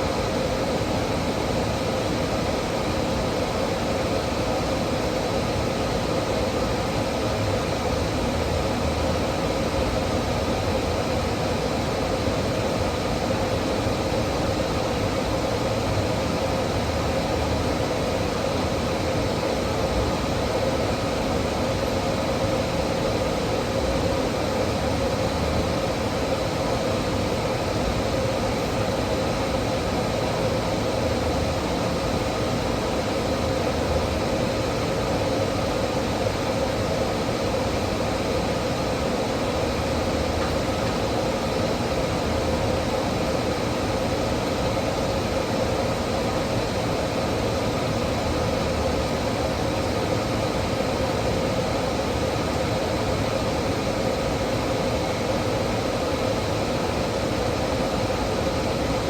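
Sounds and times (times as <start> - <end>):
mechanical hum and hiss: 0.0 - 59.0.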